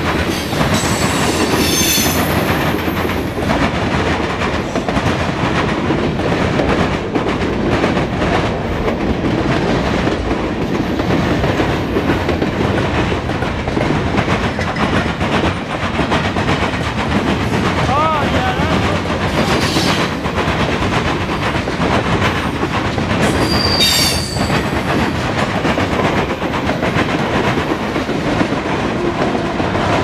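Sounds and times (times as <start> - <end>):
freight cars rumbling on rail: 0.0 - 30.0.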